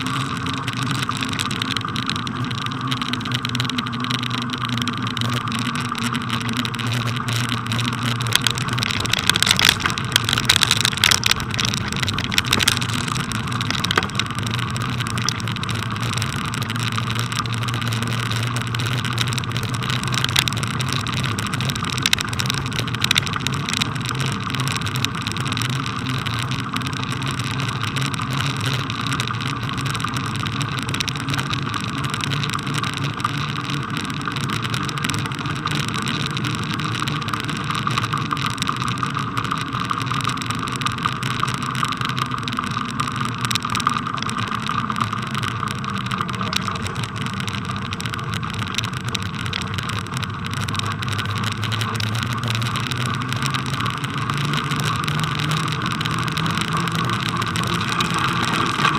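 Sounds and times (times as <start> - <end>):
bicycle rolling over snow: 0.0 - 58.9.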